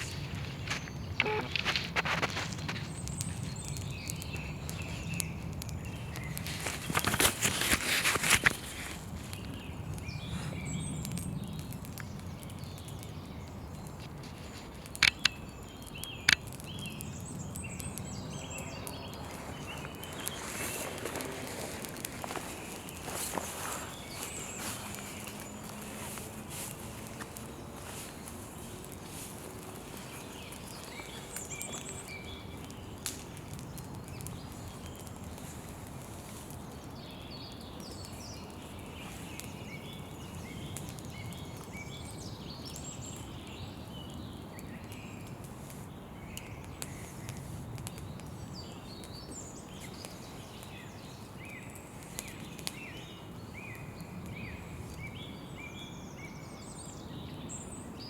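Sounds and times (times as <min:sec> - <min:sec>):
campfire hissing and crackling: 0:00.0 - 0:58.0
small birds chirping: 0:00.0 - 0:58.0.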